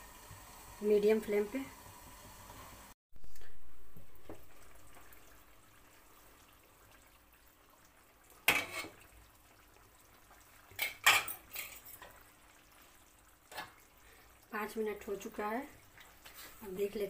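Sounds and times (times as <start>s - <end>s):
faint sizzling: 0.0s - 17.0s
short sharp sizzle bursts: 0.0s - 17.0s.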